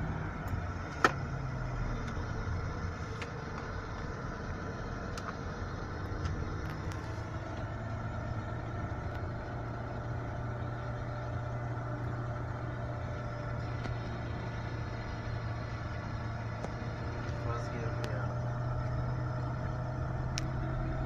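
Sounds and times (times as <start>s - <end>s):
car engine and tyre noise: 0.0s - 21.0s
constant low hum: 0.0s - 21.0s.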